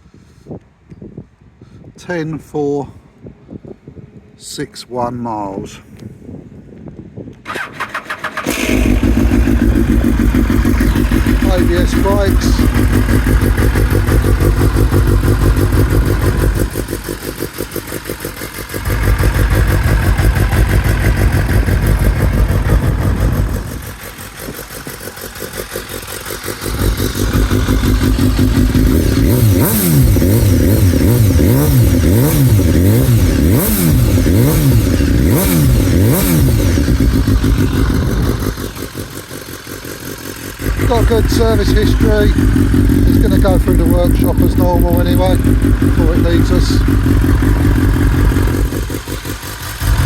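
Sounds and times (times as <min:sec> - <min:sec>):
motorcycle engine revving: 0:07.5 - 0:50.0.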